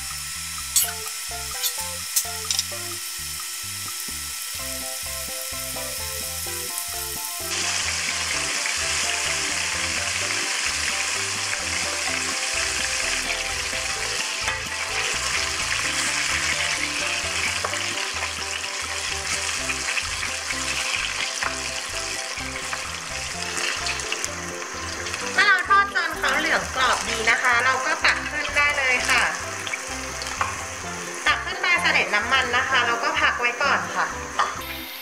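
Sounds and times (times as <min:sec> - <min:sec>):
chicken deep-frying in oil: 0:00.0 - 0:35.0
soft background music: 0:00.0 - 0:35.0.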